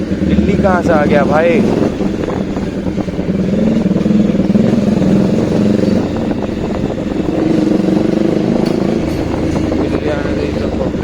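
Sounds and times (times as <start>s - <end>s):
motorcycle engine exhaust note: 0.0s - 11.0s.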